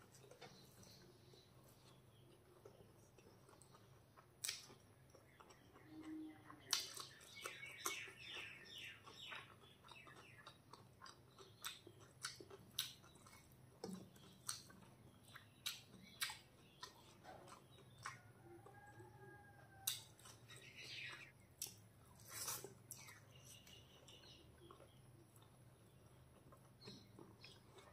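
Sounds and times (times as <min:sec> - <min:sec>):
person chewing food: 0:00.0 - 0:27.9.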